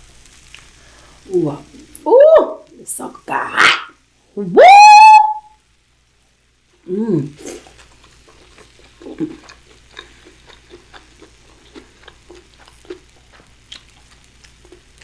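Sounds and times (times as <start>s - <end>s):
food sizzling with crackles: 0.0s - 15.0s.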